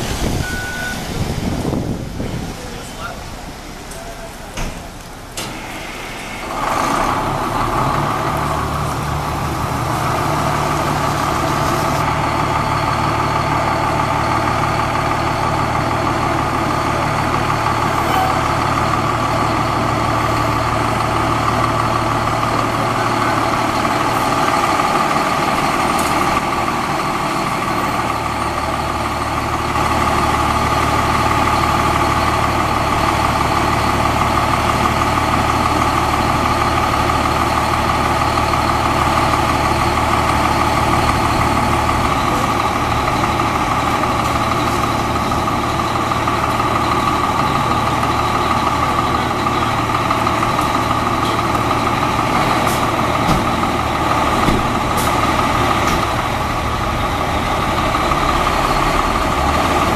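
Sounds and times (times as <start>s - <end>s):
fire engine diesel idling: 0.0s - 59.9s.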